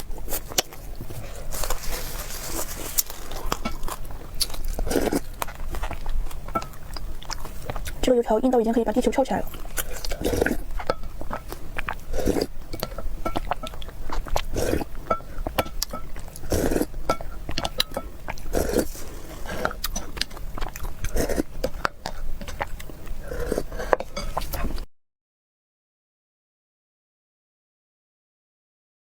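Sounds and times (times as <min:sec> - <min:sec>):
crunchy food chewing: 0:00.0 - 0:08.0, 0:08.8 - 0:24.8.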